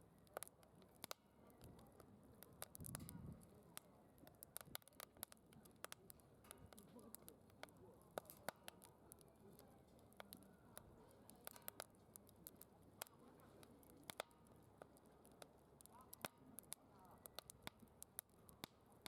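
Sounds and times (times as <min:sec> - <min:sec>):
wood fire crackling: 0:00.0 - 0:19.0
murmur of distant voices: 0:00.2 - 0:19.0.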